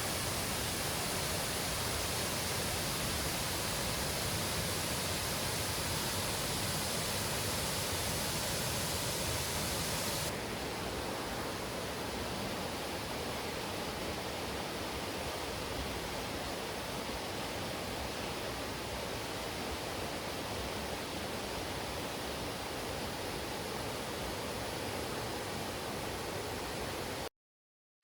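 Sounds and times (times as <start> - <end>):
stream rushing over rocks: 0.0 - 27.2.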